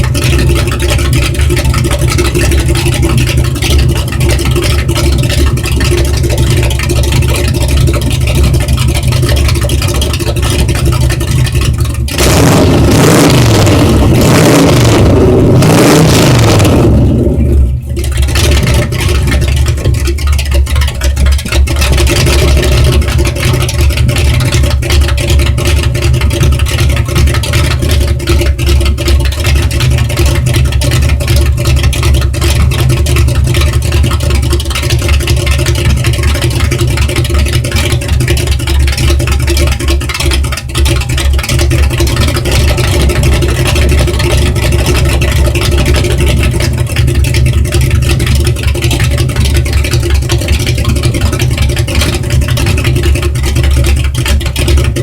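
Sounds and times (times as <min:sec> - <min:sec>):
car engine running steadily: 0:00.0 - 0:55.0.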